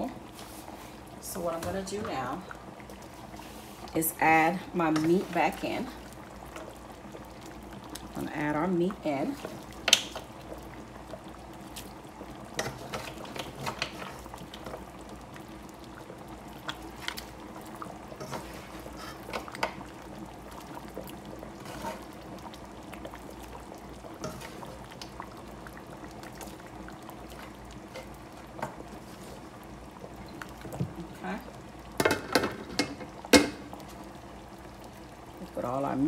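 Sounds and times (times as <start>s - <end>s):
thick soup boiling and bubbling: 0.0s - 36.0s.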